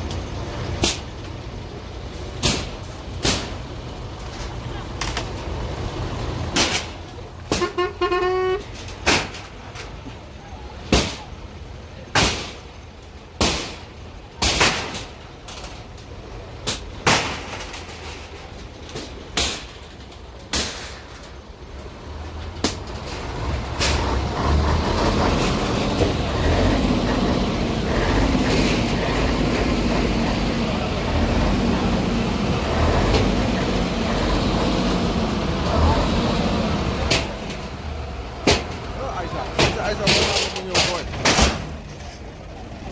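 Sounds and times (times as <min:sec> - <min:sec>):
heavy engine rumbling: 0:00.0 - 0:42.9.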